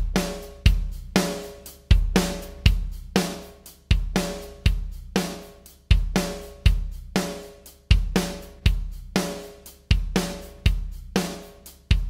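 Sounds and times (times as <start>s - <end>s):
kick drum beat: 0.0s - 12.0s.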